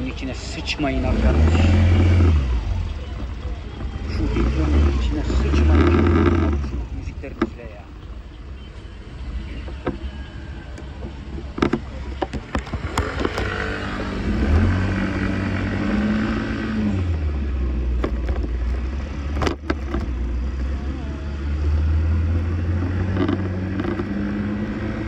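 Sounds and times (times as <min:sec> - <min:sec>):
road noise: 0:00.0 - 0:25.0
scooter engine rumble: 0:00.0 - 0:25.0.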